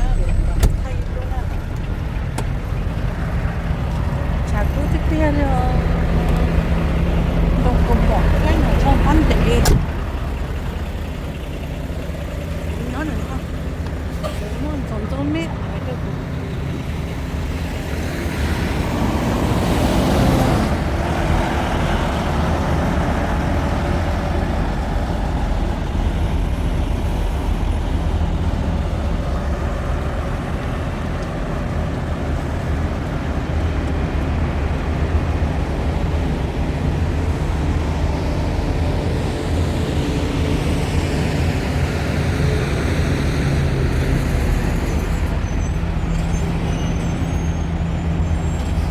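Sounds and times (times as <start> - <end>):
heavy truck engine drone: 0.0 - 48.9.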